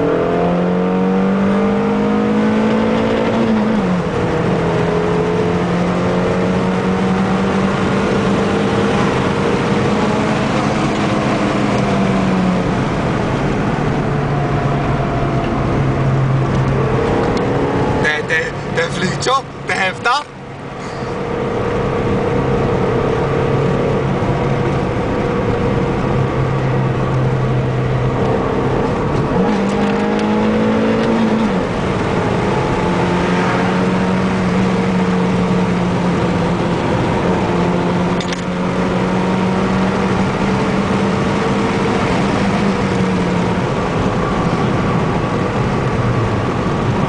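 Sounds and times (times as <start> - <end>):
car engine: 0.0 - 47.0.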